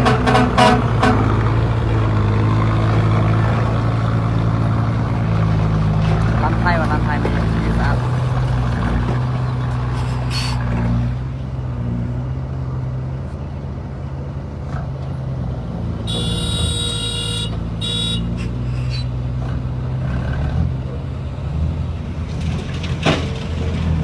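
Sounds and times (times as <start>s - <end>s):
heavy machinery engine humming: 0.0s - 24.0s.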